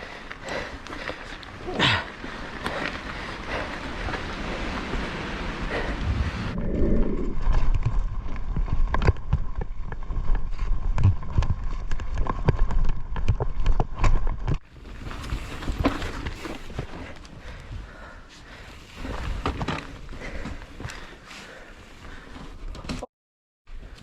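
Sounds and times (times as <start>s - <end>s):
mountain bike rattling over rocks: 0.0s - 6.4s, 7.3s - 17.9s, 18.5s - 21.2s.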